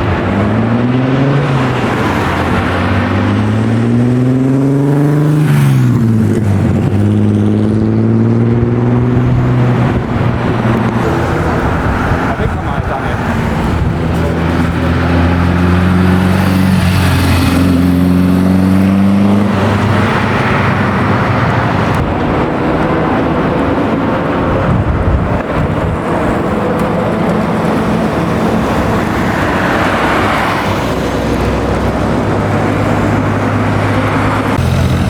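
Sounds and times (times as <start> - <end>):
car engine accelerating: 0.0 - 35.0
road noise: 0.0 - 35.0.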